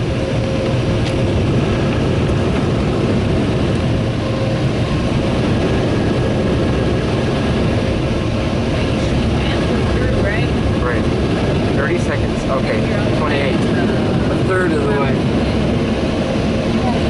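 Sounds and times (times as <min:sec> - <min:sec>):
car wash dryer blowers roaring: 0:00.0 - 0:17.0.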